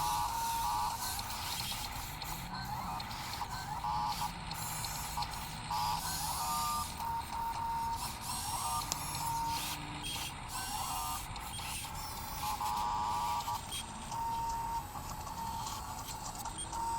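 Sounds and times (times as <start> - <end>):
electric motors whining: 0.0 - 16.9.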